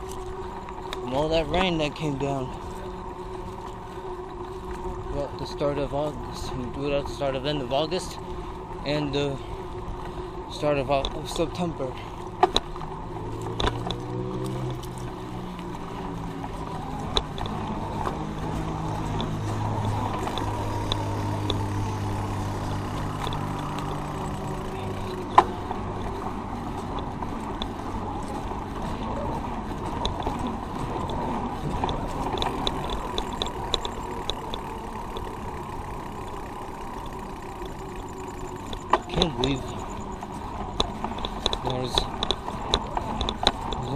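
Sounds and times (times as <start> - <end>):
road and wind noise: 0.0 - 43.9
vehicle engine running: 0.0 - 43.9.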